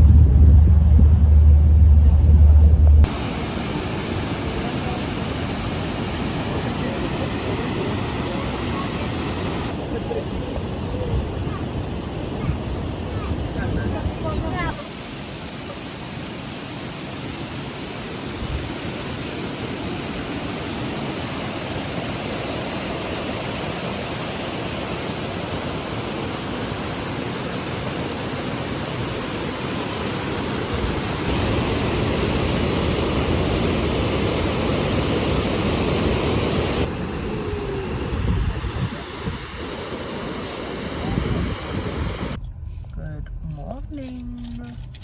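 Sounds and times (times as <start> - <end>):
waterfall roaring: 0.7 - 42.4.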